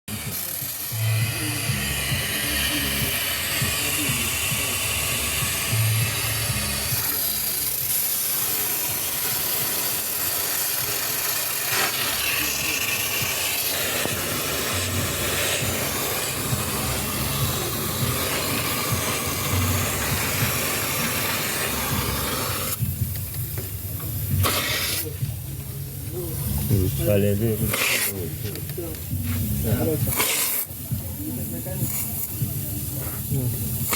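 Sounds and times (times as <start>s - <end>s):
loud steady hiss: 0.1s - 33.9s.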